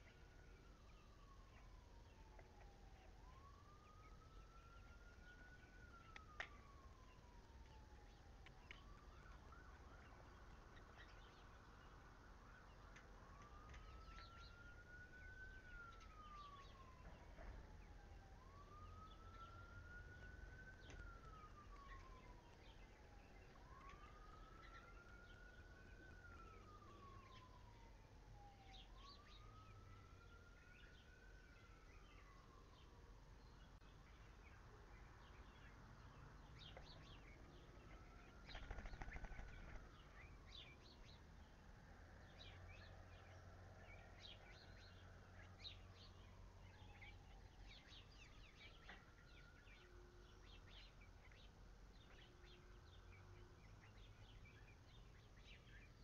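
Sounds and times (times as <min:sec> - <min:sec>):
faint siren wailing: 0:00.0 - 0:56.0.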